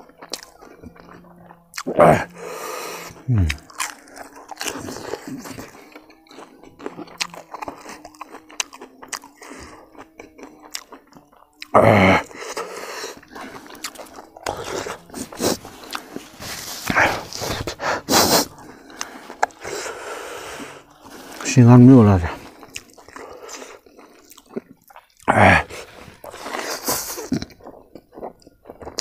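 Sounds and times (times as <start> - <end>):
crunching crispy food: 0.0 - 2.4, 3.0 - 29.0
wet mouth sounds: 0.0 - 2.4, 3.0 - 21.4, 22.4 - 29.0.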